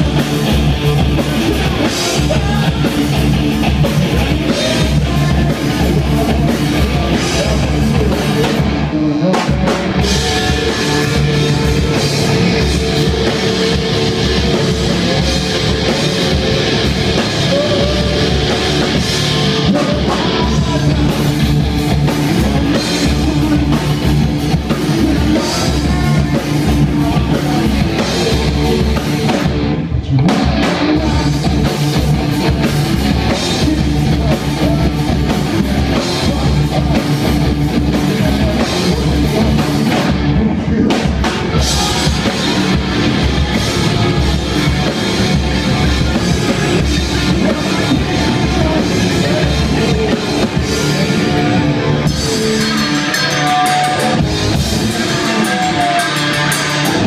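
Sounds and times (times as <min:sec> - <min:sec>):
bass guitar: 0:00.0 - 0:57.0
drum kit: 0:00.0 - 0:57.0
electric guitars: 0:00.0 - 0:57.0
person singing into microphone: 0:01.2 - 0:29.4, 0:30.0 - 0:57.0.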